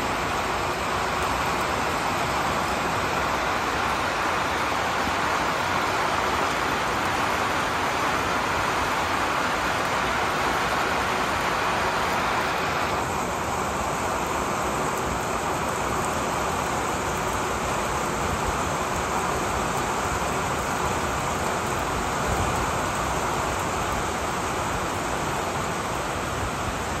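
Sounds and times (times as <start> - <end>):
rain falling on foliage: 0.0 - 27.0.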